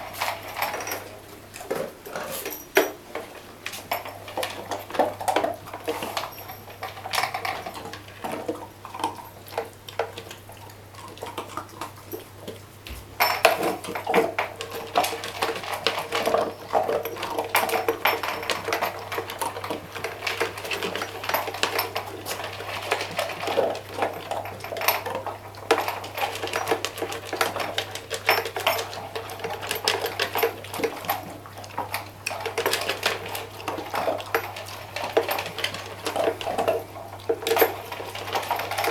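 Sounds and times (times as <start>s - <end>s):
dog eating greedily: 0.0s - 38.9s.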